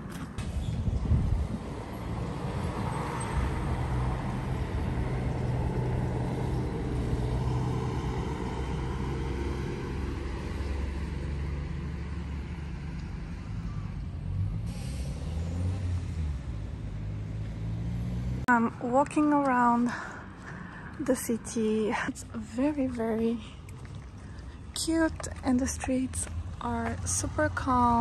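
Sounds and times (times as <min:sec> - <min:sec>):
car engines passing: 0:00.0 - 0:28.0.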